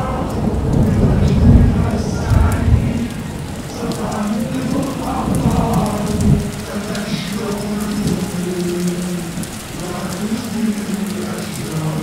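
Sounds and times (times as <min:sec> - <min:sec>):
chorus singing long notes: 0:00.0 - 0:12.0
low thunder rumble: 0:00.0 - 0:12.0
rain: 0:00.0 - 0:12.0.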